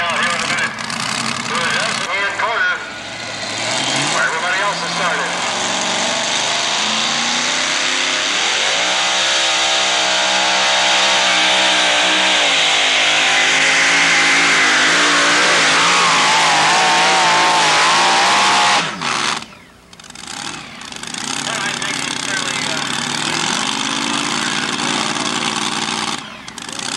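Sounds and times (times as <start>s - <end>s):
truck engine at full throttle: 0.0s - 26.9s.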